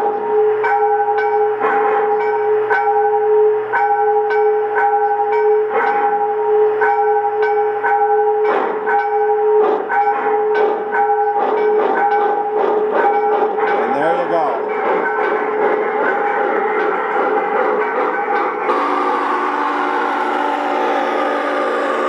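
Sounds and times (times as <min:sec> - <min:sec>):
locomotive bell ringing: 0:00.0 - 0:22.0.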